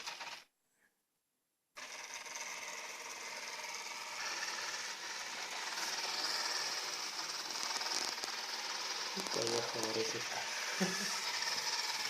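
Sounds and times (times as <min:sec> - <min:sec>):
robot vacuum cleaner whirring: 0:00.0 - 0:00.5, 0:01.8 - 0:12.0.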